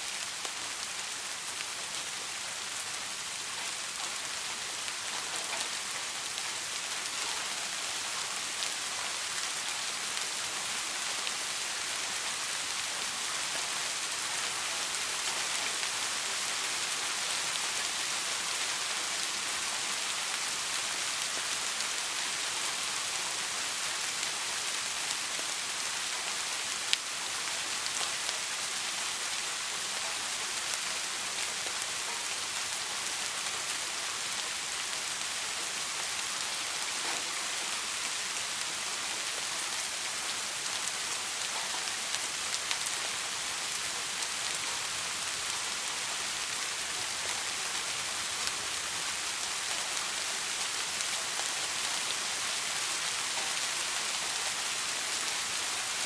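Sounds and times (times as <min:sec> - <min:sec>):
soft rain: 0:00.0 - 0:56.0.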